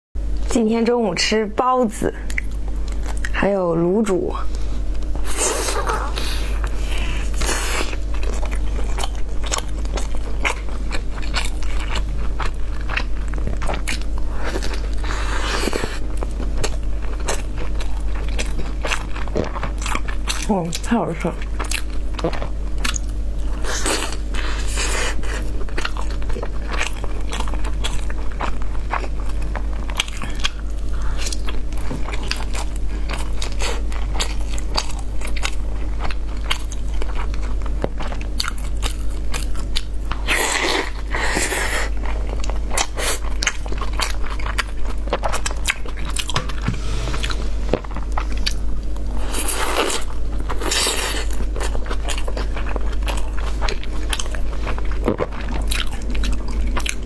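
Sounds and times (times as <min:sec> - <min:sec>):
person chewing food: 0:05.0 - 0:20.8, 0:21.4 - 0:57.0.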